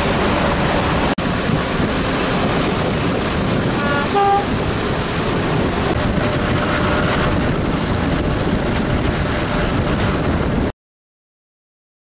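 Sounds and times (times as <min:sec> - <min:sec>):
train wheels rumbling on track: 0:00.0 - 0:10.7
wind noise: 0:00.0 - 0:10.7.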